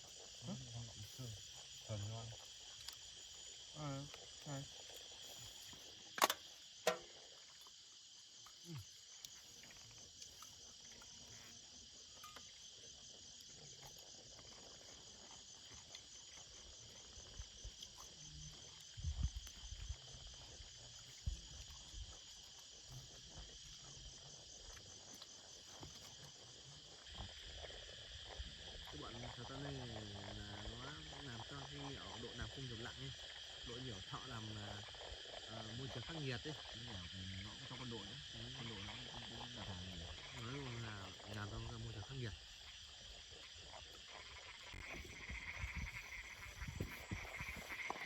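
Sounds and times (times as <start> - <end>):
night insects chirring: 0.0 - 48.0.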